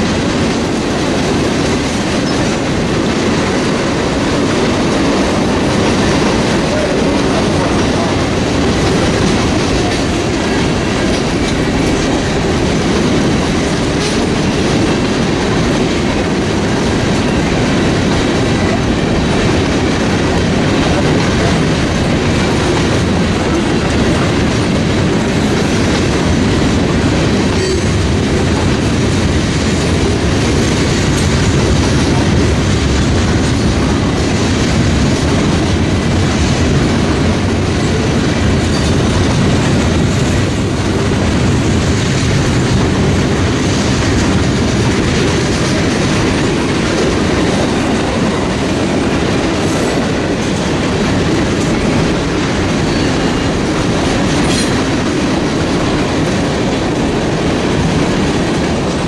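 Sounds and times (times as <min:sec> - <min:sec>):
freight train wheels rolling on rails: 0:00.0 - 0:59.0.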